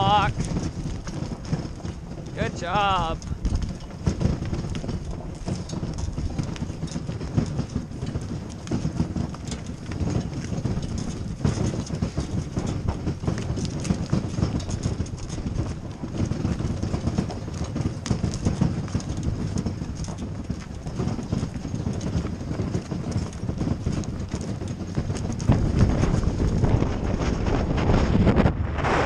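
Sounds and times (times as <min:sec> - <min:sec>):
cart rattling: 0:00.0 - 0:28.5
hooves clip-clopping on dirt: 0:00.0 - 0:28.6
wind rumbling on microphone: 0:00.0 - 0:29.0.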